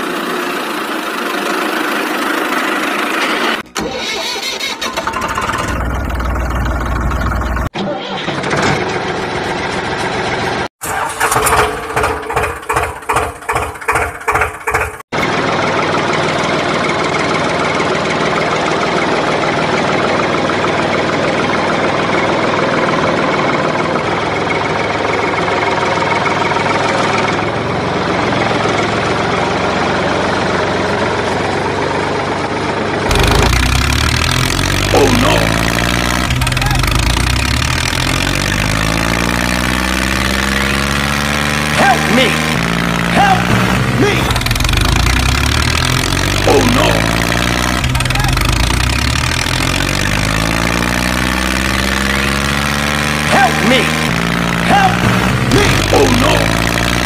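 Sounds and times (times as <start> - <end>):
tractor engine starting and running: 0.0 - 57.0.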